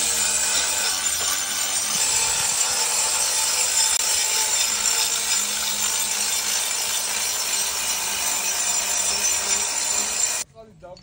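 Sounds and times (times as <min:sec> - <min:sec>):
angle grinder cutting stone: 0:00.0 - 0:10.4.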